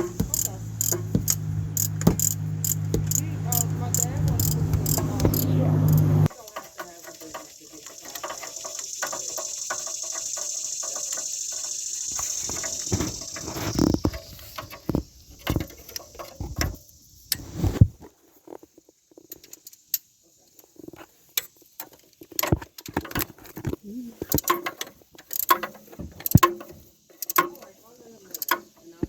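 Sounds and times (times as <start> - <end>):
hand tools clicking and knocking: 0.0 - 16.9, 21.4 - 29.0.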